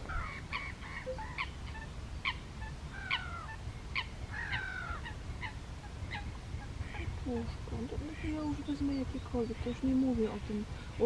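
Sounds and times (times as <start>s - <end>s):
waterbirds calling: 0.0s - 11.0s.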